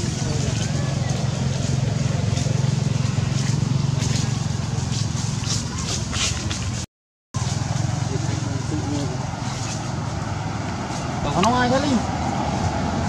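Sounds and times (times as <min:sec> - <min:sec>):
dry leaves and twigs crackling: 0:00.0 - 0:06.8, 0:07.4 - 0:12.9.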